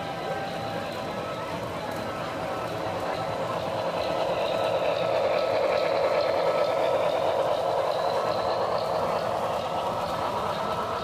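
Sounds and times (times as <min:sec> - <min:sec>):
model train rushing past: 0:00.0 - 0:11.0.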